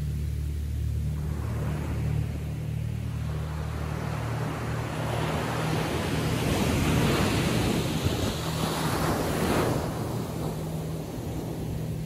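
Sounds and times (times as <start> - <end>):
low surf rumble: 0.0 - 12.0
wave breaking on beach: 0.0 - 12.0.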